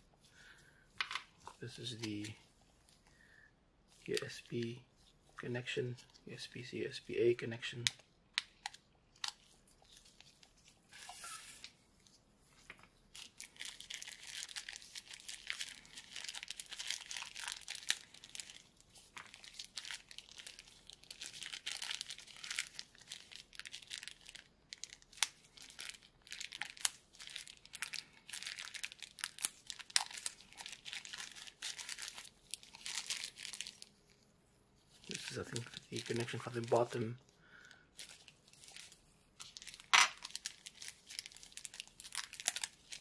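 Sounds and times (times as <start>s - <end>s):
packaging crinkling and tearing: 1.4s - 2.5s, 4.0s - 4.8s, 7.6s - 11.7s, 13.1s - 34.2s, 34.9s - 43.0s.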